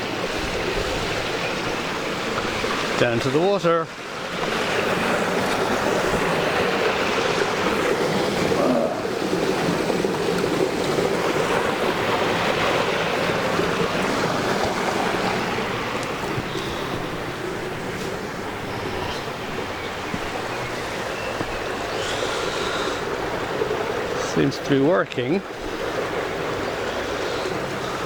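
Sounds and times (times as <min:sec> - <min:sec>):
rush of flowing water: 0:00.0 - 0:28.0.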